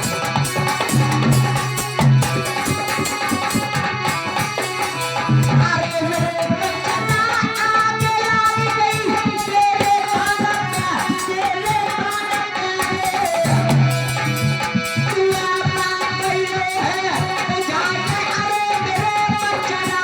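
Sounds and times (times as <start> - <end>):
hand drum rhythm: 0.0 - 20.0.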